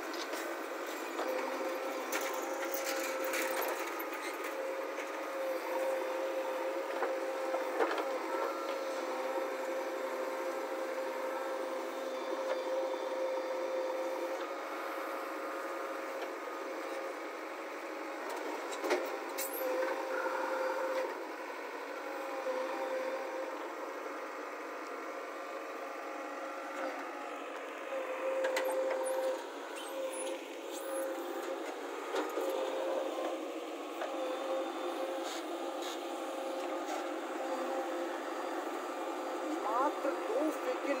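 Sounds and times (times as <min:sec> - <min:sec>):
backhoe engine running with whine: 0:00.0 - 0:41.0.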